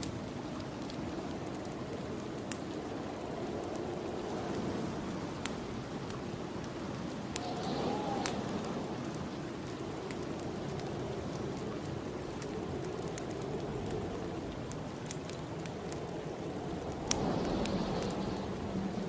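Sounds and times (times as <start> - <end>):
wind blowing: 0.0 - 19.0
wood fire crackling: 0.0 - 19.0.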